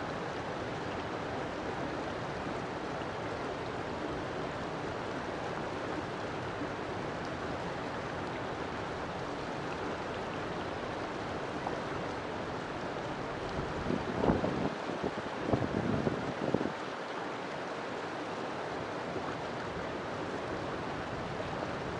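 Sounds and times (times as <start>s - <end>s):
river water flowing: 0.0s - 21.9s.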